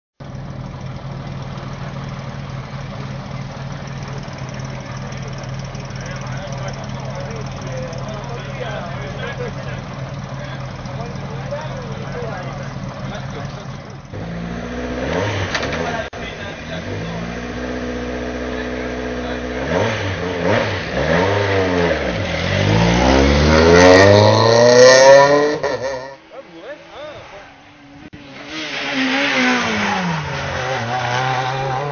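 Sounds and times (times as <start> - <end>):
car engine idling: 0.2 - 28.3.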